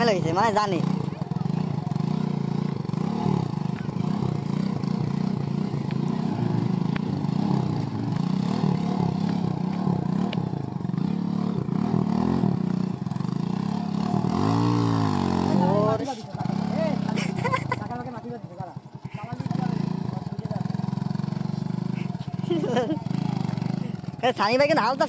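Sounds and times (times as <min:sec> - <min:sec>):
small motorcycle engine: 0:00.0 - 0:25.0.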